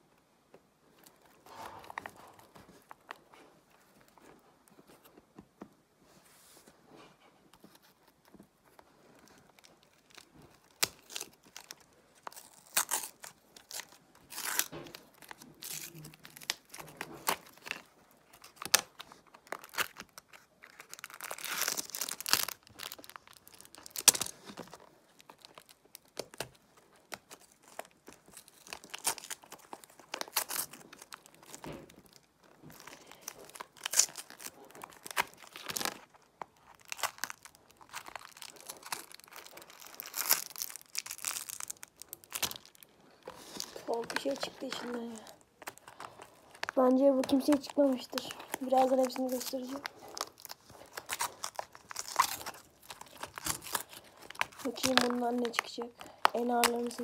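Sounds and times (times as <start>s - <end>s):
wrappers crinkling: 7.6s - 57.0s.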